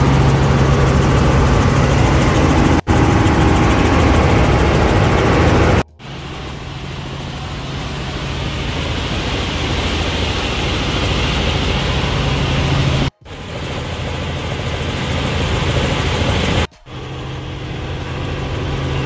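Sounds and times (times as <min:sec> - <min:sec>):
helicopter engine and rotor drone: 0:00.0 - 0:19.0
low hum: 0:00.0 - 0:19.0.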